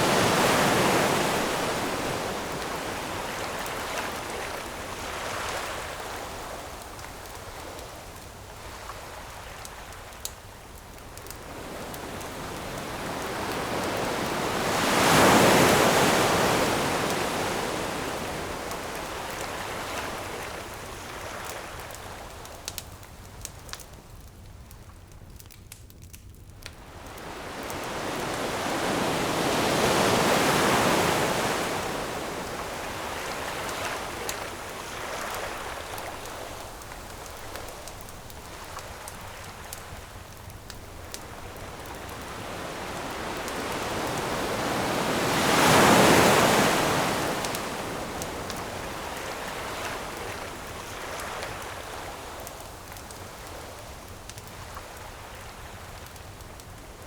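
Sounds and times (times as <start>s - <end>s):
ocean waves washing ashore: 0.0s - 22.5s, 26.8s - 57.0s
campfire crackling: 0.0s - 57.0s.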